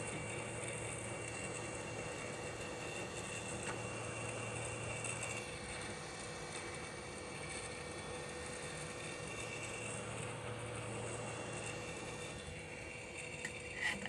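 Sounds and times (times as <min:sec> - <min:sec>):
hot air station blowing: 0:00.0 - 0:14.0.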